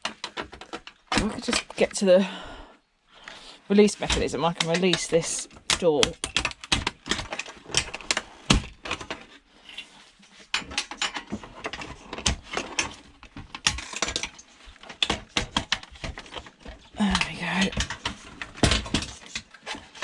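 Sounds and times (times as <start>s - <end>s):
plastic and metal parts clicking: 0.0s - 2.0s, 4.0s - 20.0s.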